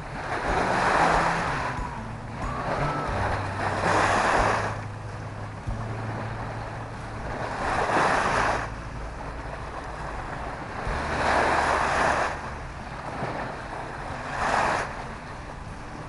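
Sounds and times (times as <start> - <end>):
small waves washing ashore: 0.0 - 16.0.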